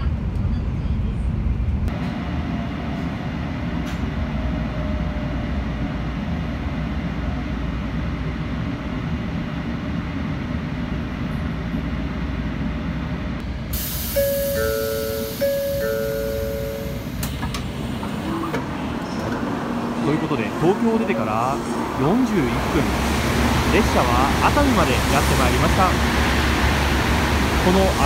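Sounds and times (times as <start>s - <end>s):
train rumble from inside carriage: 0.0s - 28.0s.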